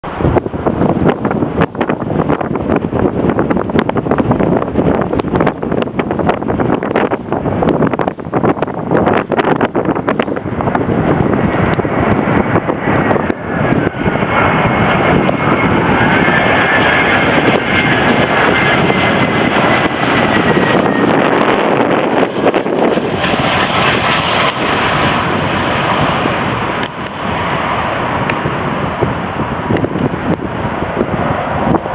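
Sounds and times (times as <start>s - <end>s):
high whine: 0.0s - 31.9s
jet engines rushing: 0.0s - 31.9s.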